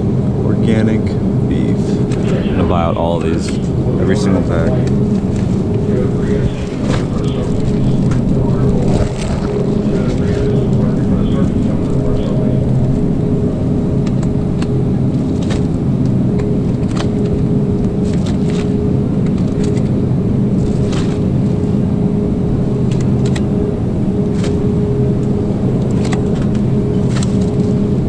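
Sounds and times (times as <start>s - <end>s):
loud mechanical hum: 0.0s - 28.0s.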